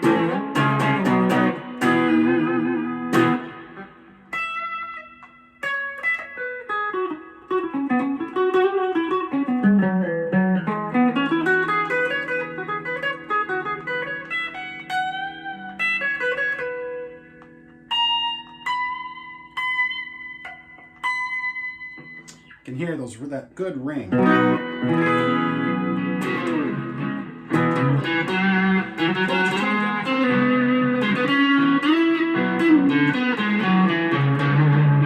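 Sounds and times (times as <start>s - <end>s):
electric guitar single notes: 0.0s - 35.0s.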